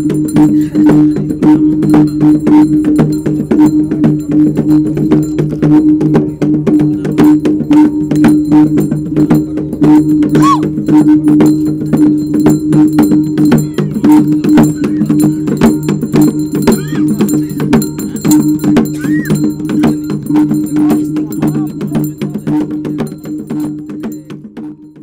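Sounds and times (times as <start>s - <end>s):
fast dense percussion: 0.0s - 25.0s.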